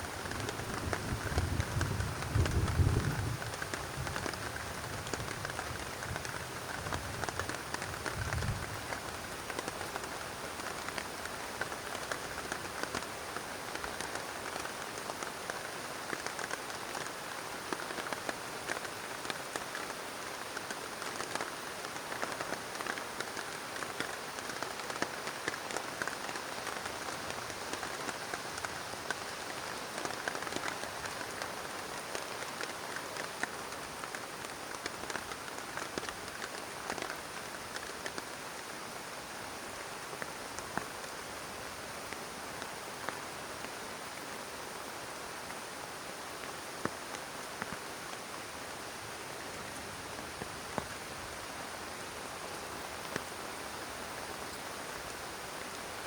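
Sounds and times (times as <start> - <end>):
heavy rain on a plastic tarp: 0.0 - 56.0.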